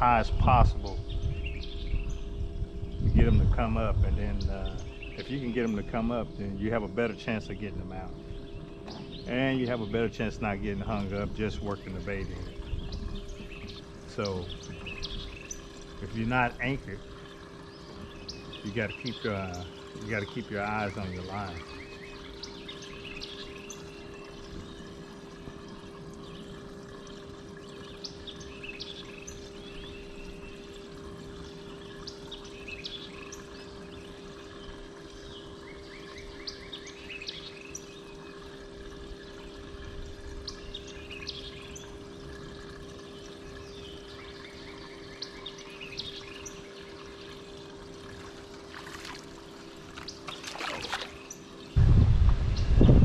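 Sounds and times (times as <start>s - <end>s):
birds chirping: 0.0s - 51.9s
low hum: 0.0s - 53.0s
water sounds: 0.0s - 53.0s.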